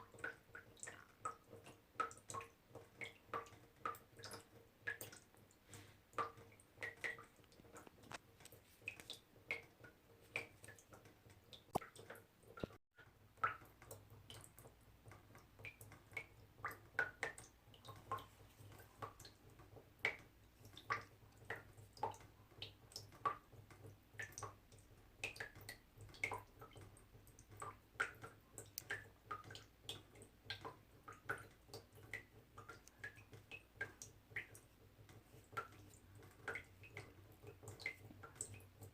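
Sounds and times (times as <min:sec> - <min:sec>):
water droplets dripping: 0:00.0 - 0:38.9.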